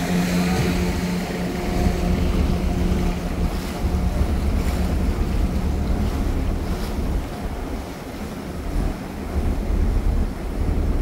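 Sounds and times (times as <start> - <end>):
ship engine drone: 0.0 - 11.0
water rushing along hull: 0.0 - 11.0
wind buffeting microphone: 0.0 - 11.0.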